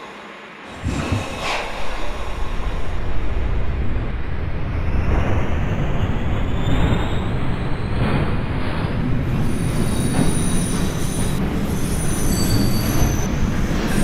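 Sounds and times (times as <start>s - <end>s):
subway train rumbling on rails: 0.0s - 14.0s.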